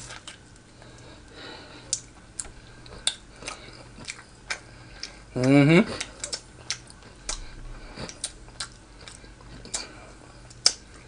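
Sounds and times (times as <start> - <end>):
close chewing mouth clicks and smacks: 1.9 - 11.0.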